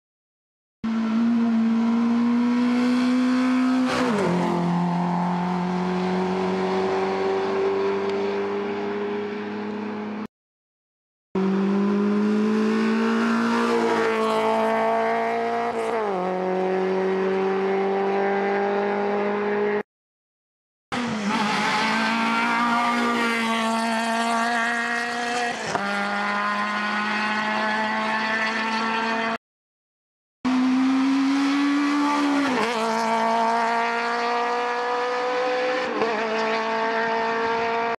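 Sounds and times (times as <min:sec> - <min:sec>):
race car engines revving uphill: 0:00.8 - 0:10.3, 0:11.4 - 0:19.8, 0:21.0 - 0:29.4, 0:30.5 - 0:37.9.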